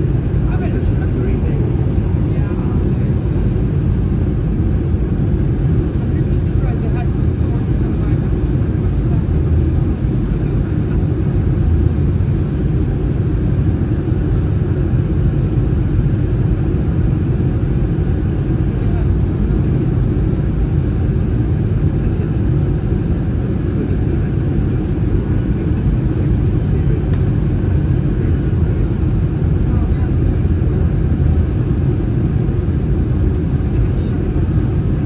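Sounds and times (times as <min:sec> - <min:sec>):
aircraft cabin engine rumble: 0:00.0 - 0:35.0.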